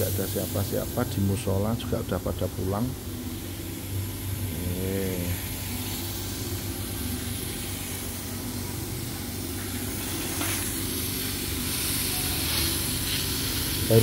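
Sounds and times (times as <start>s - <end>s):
laser cutter humming and hissing: 0.0s - 14.0s.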